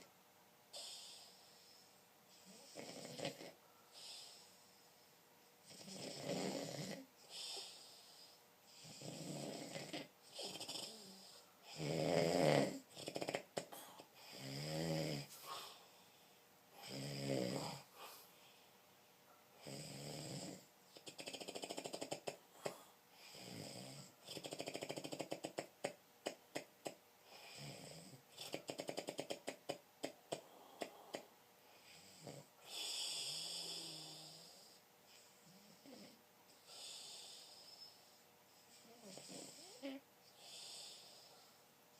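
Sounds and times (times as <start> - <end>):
snoring: 0.7 - 4.5, 5.6 - 15.4, 16.8 - 17.9, 19.6 - 38.0, 38.7 - 41.5.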